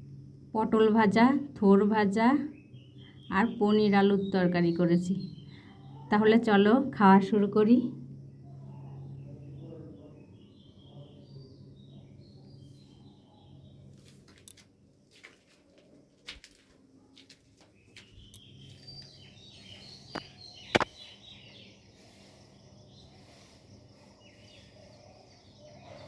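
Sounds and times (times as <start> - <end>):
birds chirping: 1.7 - 14.6, 15.6 - 26.0.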